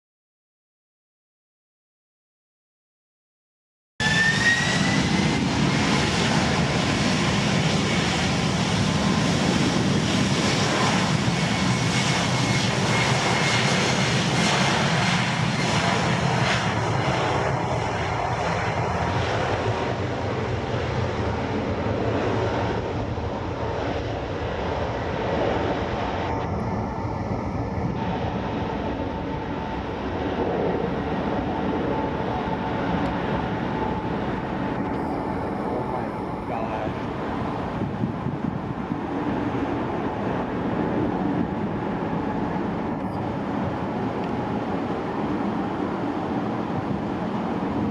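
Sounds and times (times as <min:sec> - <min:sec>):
airliner engines running: 0:04.0 - 0:47.9.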